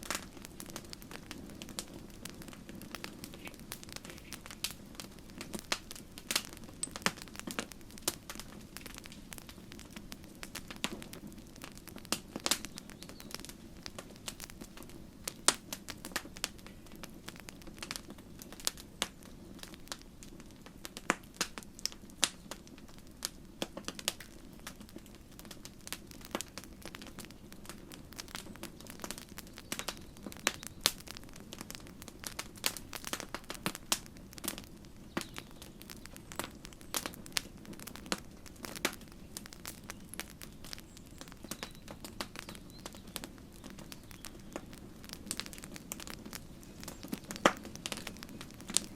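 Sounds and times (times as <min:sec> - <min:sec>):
low rush of flame: 0:00.0 - 0:48.9
wood crackling and popping: 0:00.0 - 0:48.9.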